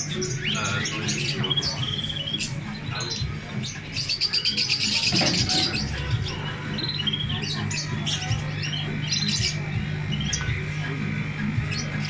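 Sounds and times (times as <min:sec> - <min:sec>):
songbirds chirping: 0:00.0 - 0:12.0
steady low hum: 0:00.0 - 0:12.0.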